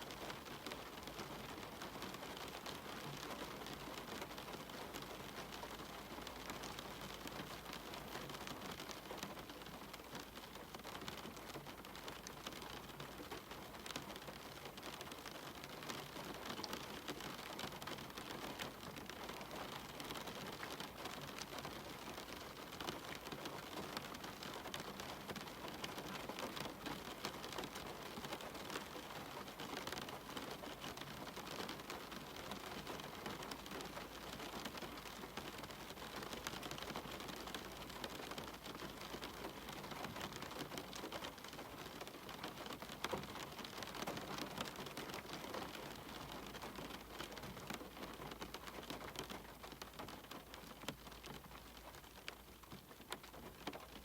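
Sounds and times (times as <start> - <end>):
rain drops ticking: 0.0 - 54.0.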